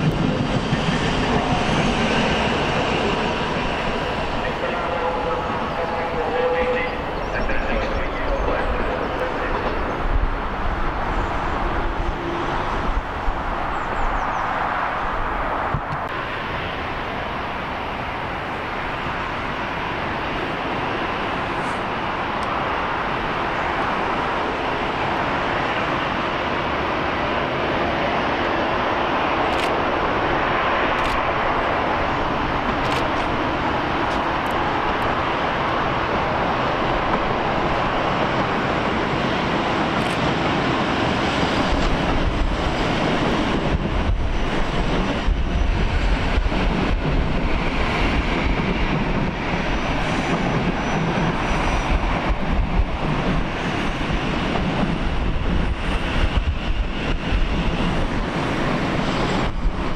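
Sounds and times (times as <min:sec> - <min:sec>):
jet aircraft: 0:00.0 - 0:59.9
trains passing: 0:00.0 - 0:59.9.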